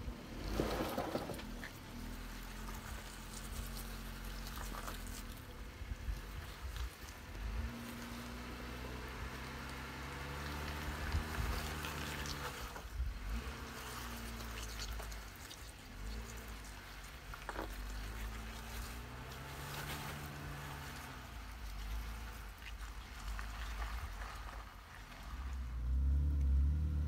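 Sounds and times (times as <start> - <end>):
engine revving: 0.0 - 15.0, 17.5 - 22.6, 25.2 - 27.0.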